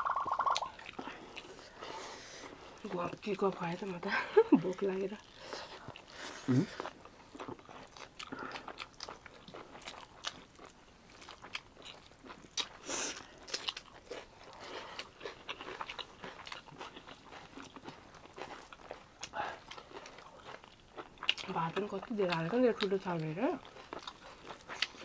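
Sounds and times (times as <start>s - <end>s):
person chewing food: 0.0s - 2.8s, 5.2s - 22.9s, 23.6s - 25.0s.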